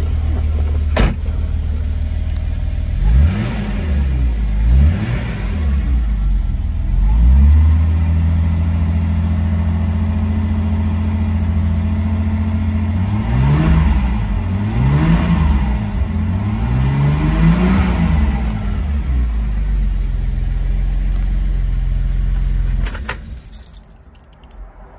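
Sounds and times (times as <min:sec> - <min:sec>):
car engine idling and revving: 0:00.0 - 0:24.9.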